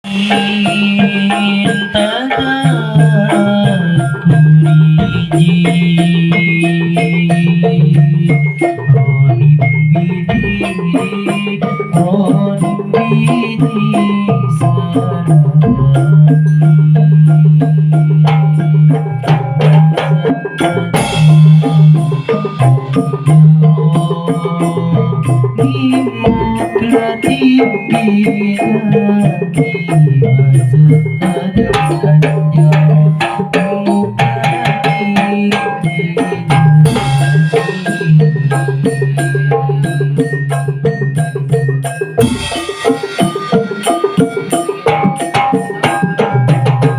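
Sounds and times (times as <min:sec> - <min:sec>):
drums and wooden percussion: 0:00.0 - 0:46.9
held low melody line: 0:00.0 - 0:46.9
higher pitched notes: 0:00.0 - 0:46.9.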